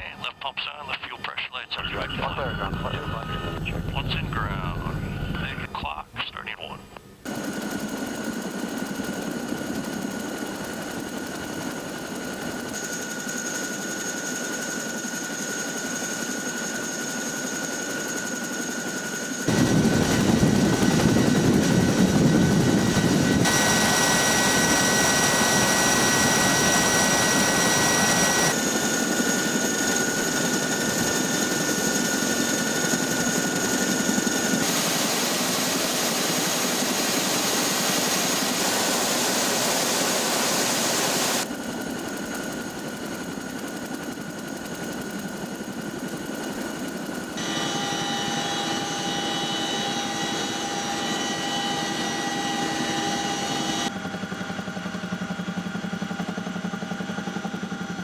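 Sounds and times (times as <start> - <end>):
helicopter engine whine: 0.0 - 58.0
helicopter rotors rushing: 0.0 - 58.0.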